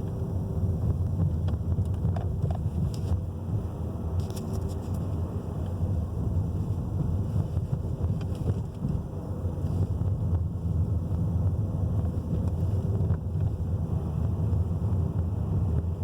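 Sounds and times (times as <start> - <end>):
car cabin low rumble: 0.0 - 16.0.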